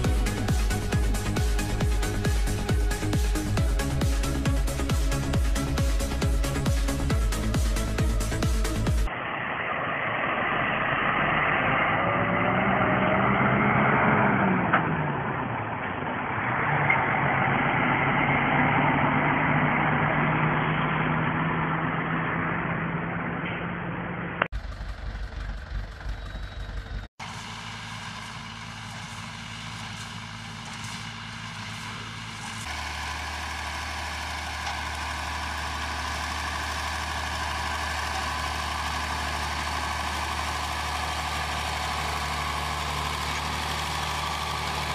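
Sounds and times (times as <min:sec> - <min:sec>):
tractor engine running: 0:00.0 - 0:11.8, 0:13.9 - 0:44.9
truck engine: 0:00.0 - 0:44.9.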